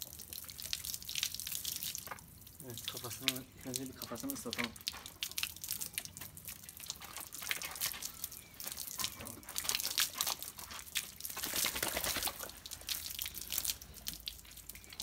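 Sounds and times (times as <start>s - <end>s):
running water splashing on dog: 0.0s - 15.0s.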